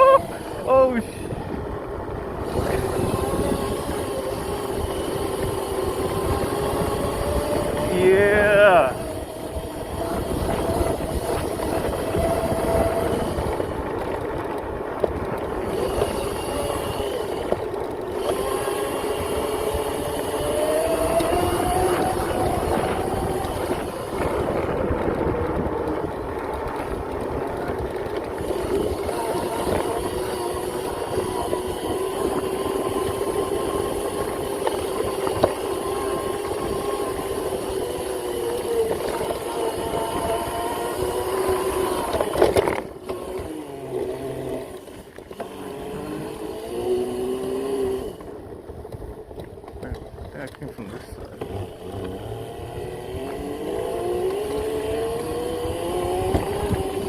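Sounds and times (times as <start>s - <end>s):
electric motor whining: 0.0s - 49.0s, 51.2s - 57.0s
continuous rushing noise: 0.0s - 57.0s.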